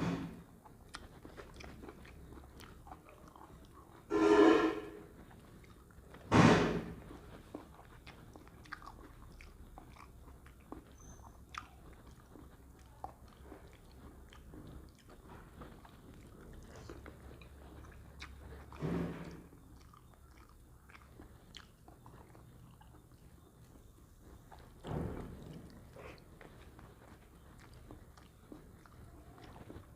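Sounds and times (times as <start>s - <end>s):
person chewing food: 0.0s - 4.1s, 5.0s - 29.9s.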